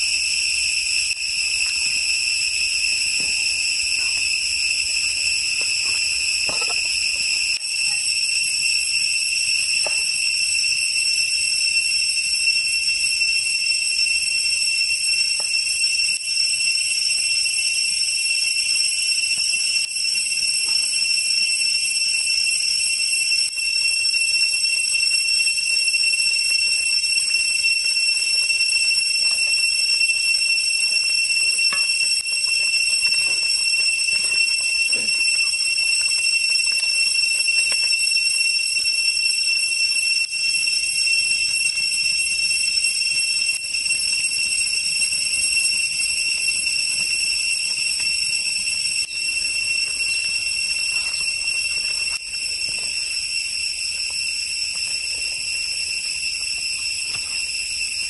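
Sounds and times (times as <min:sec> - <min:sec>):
cicadas droning: 0:00.0 - 0:58.0
high-pitched insect chorus: 0:00.0 - 0:58.0.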